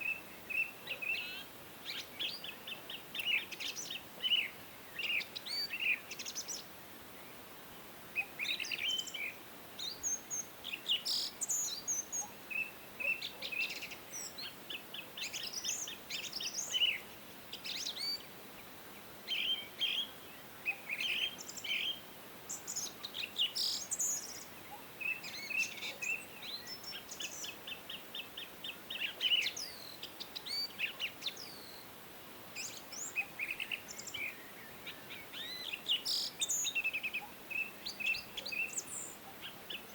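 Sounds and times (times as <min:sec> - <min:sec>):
faint steady hiss: 0:00.0 - 0:39.9
songbirds singing and chirping: 0:00.0 - 0:39.9.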